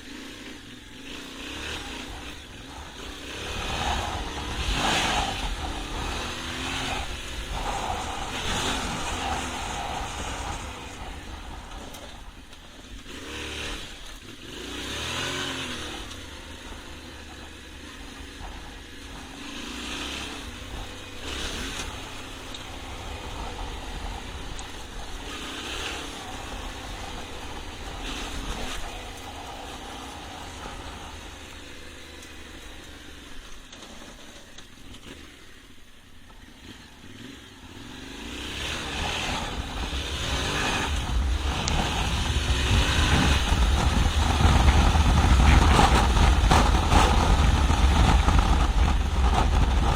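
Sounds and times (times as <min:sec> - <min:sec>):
motorcycle engine revving: 0:00.0 - 0:49.9
rushing noise: 0:01.4 - 0:32.0, 0:38.1 - 0:49.9.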